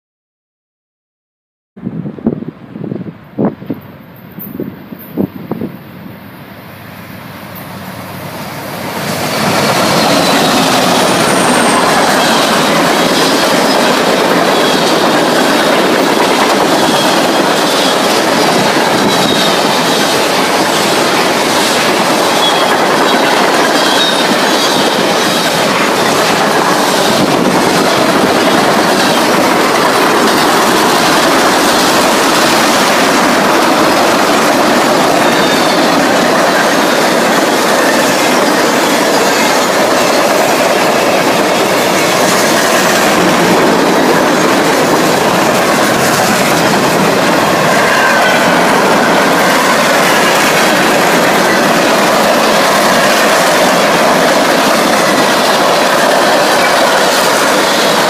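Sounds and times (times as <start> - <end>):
train wheels rolling on rails: 2.9 - 58.0
clickety-clack over rail joints: 7.6 - 58.0
high wheel squeal: 7.6 - 58.0.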